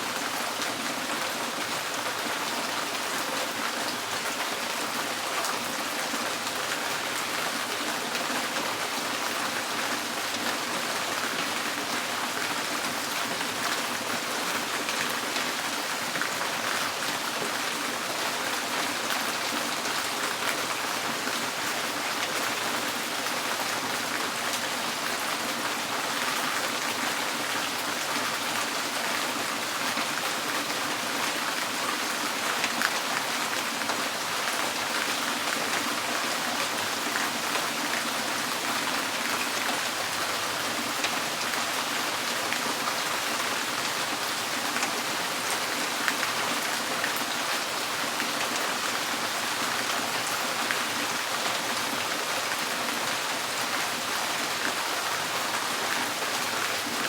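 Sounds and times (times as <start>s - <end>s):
rain drumming on a tin roof: 0.1s - 57.0s.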